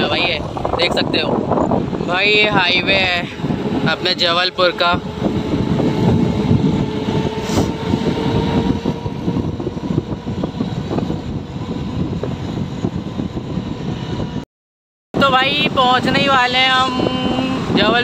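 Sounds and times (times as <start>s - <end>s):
engine hum: 0.0s - 14.4s
wind rumble on microphone: 0.0s - 14.5s, 15.2s - 18.0s.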